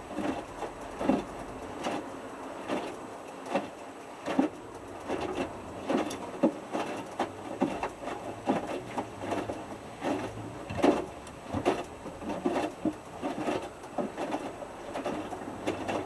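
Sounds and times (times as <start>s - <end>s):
wet clothes tumbling in washing drum: 0.0s - 16.0s.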